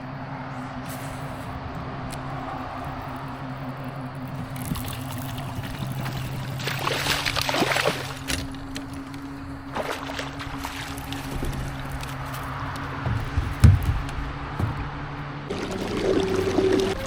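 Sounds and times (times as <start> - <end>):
electric boat motor humming: 1.6 - 13.4, 14.1 - 17.0
water splashing and trickling: 2.2 - 17.0.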